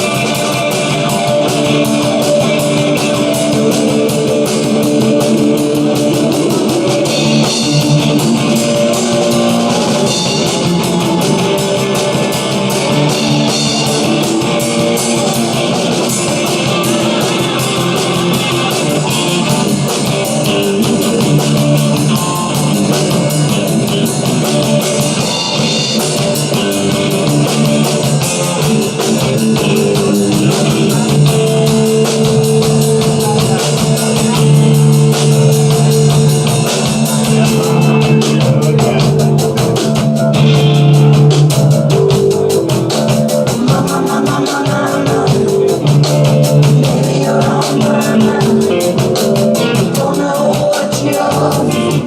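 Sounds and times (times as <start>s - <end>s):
drum kit beat: 0.0s - 52.0s
guitar: 0.0s - 52.0s
rock music: 0.0s - 52.0s.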